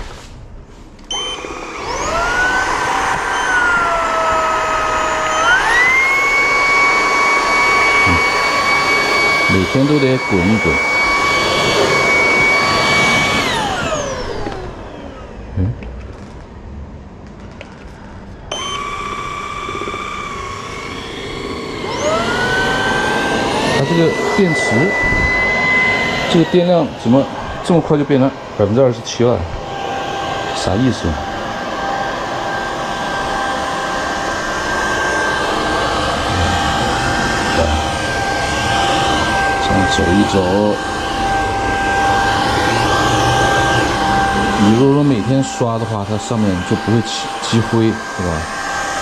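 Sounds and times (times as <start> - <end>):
handheld vacuum motor whining: 1.0 - 16.3, 18.3 - 49.0.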